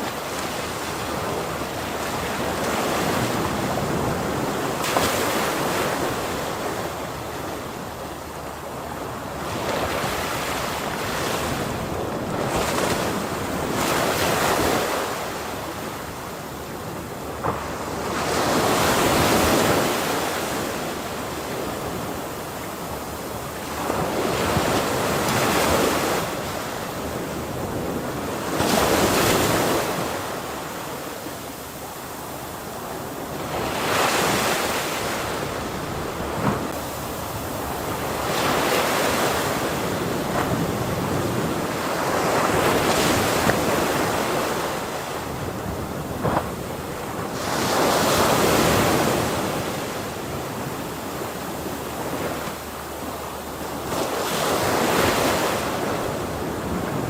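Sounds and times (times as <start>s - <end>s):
ocean waves breaking on shore: 0.0s - 57.0s
wind noise on microphone: 0.0s - 57.0s.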